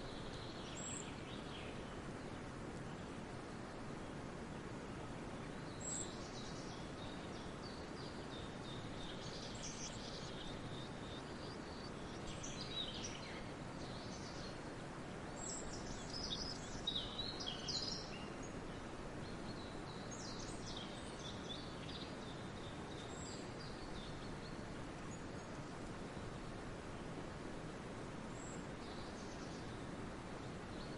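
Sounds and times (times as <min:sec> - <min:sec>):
outdoor ambience hiss: 0:00.0 - 0:30.9.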